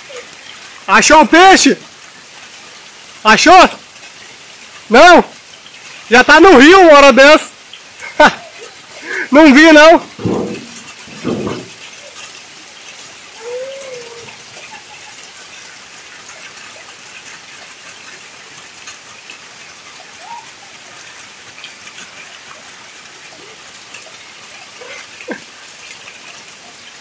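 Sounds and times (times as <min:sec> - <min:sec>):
heavy rain on dirt and leaves: 0:00.0 - 0:27.0.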